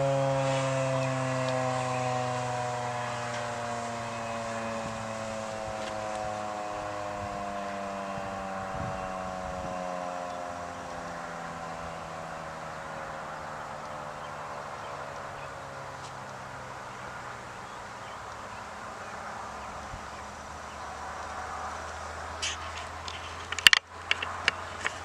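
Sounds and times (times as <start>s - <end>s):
low steady hum: 0.0s - 25.0s
storm siren winding down: 0.0s - 25.0s.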